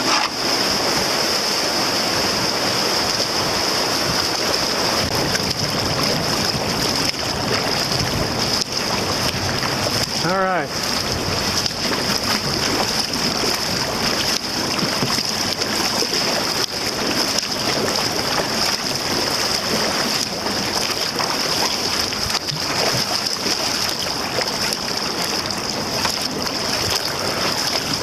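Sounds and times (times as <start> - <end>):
paddles splashing: 0.0 - 28.0
water rushing along hull: 0.0 - 28.0.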